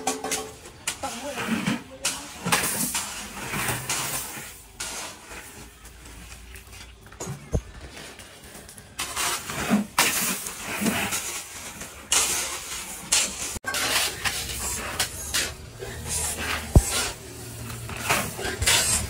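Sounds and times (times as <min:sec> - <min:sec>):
gravel rattling in plastic bucket: 0:00.6 - 0:19.0.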